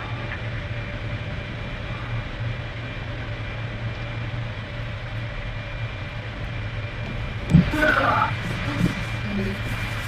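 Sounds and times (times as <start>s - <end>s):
submersible rumble and hiss underwater: 0.0s - 10.0s.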